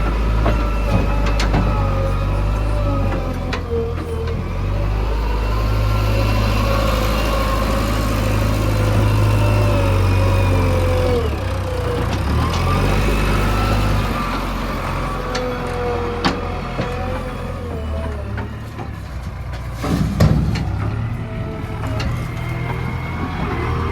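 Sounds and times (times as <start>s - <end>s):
heavy machinery diesel engine running: 0.0s - 23.9s.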